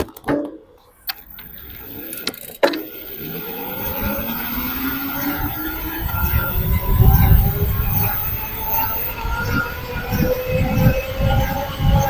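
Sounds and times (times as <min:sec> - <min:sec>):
electric bike motor whining: 0:01.0 - 0:12.0.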